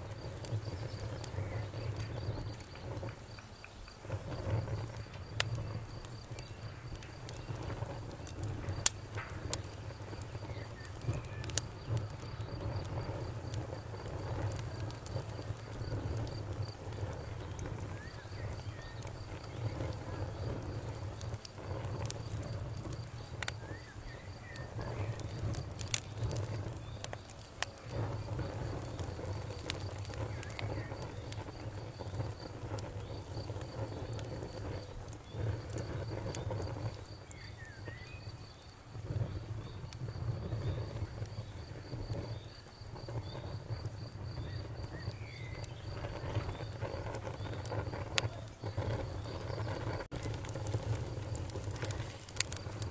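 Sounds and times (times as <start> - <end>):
campfire crackling and popping: 0.0 - 52.9
crickets chirping: 0.0 - 52.9.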